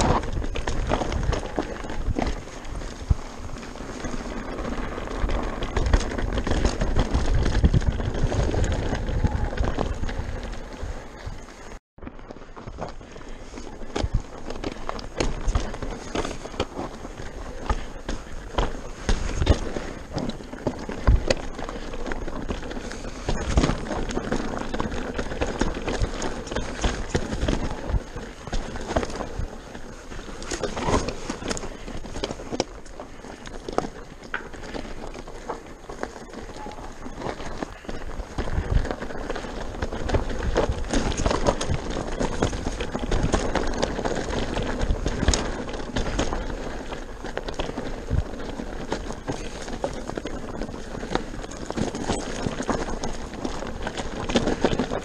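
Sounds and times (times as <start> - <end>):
bike knocks and rattles: 0.0 - 55.0
bike tyres rolling over gravel: 0.0 - 55.0.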